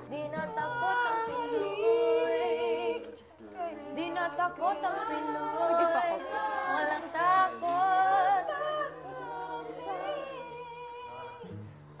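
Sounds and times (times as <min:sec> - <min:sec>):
voices singing unaccompanied: 0:00.0 - 0:11.7.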